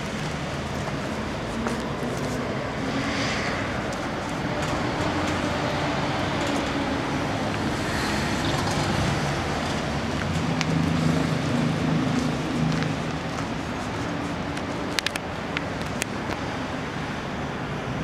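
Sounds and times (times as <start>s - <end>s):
city street traffic: 0.0s - 18.0s
vehicle engine humming: 0.0s - 18.0s.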